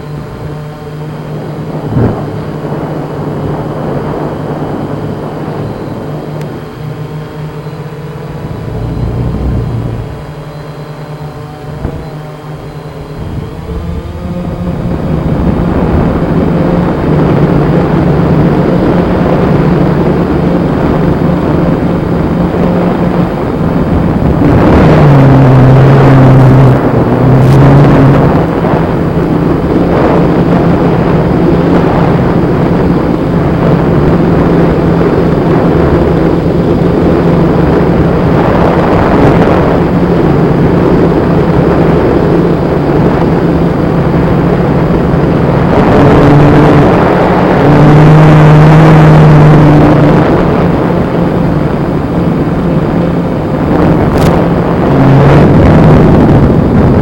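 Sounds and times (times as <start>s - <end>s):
quadcopter drone droning: 0.0s - 57.0s.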